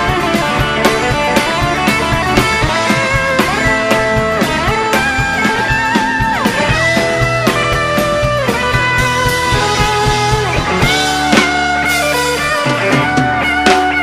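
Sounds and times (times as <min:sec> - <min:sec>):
bass: 0:00.0 - 0:14.0
guitar: 0:00.0 - 0:14.0
steady drum beat: 0:00.0 - 0:14.0.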